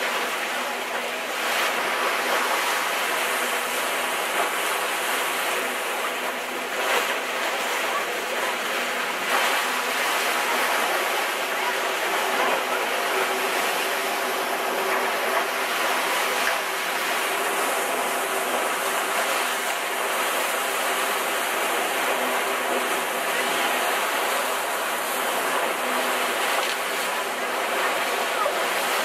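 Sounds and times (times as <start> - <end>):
sea water splashing along hull: 0.0 - 29.0.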